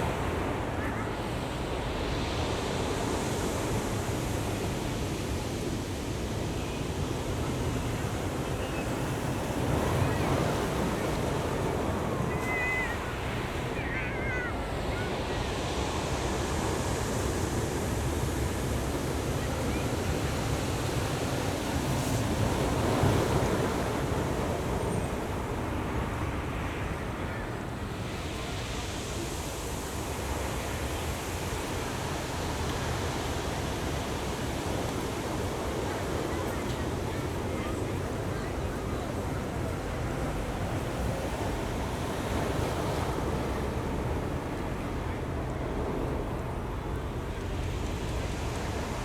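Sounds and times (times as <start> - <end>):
ocean waves breaking: 0.0 - 49.0.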